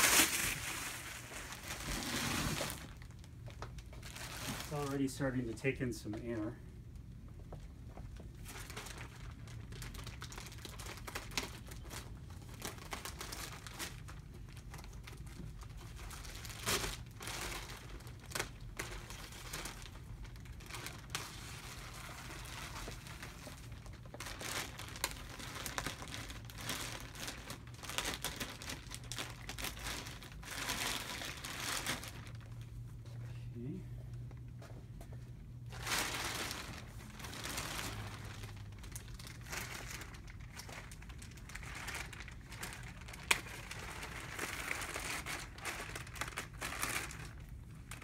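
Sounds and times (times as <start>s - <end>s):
plastic wrapping crinkling and tearing: 0.0s - 32.8s, 35.6s - 48.0s.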